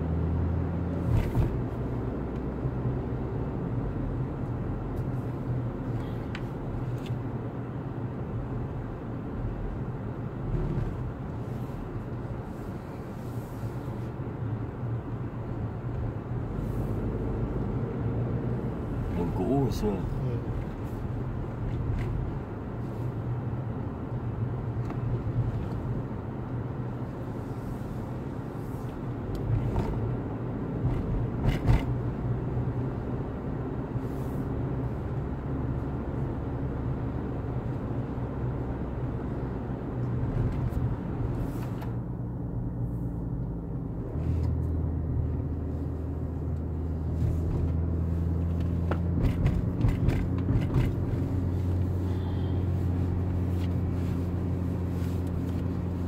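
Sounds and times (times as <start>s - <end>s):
car engine and tyre hum: 0.0s - 56.0s.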